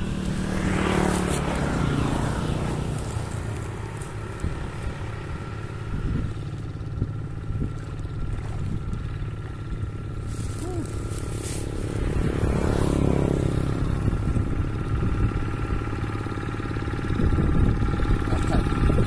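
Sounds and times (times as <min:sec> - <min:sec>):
road traffic rumble: 0:00.0 - 0:19.0
vehicle passing by: 0:00.0 - 0:19.0.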